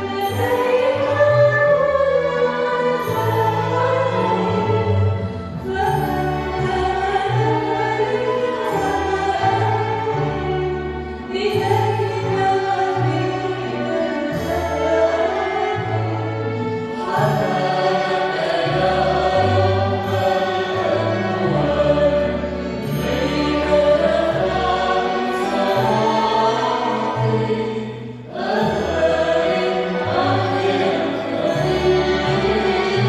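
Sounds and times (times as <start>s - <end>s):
acoustic ensemble: 0.0s - 33.0s
women singing together: 0.0s - 33.0s.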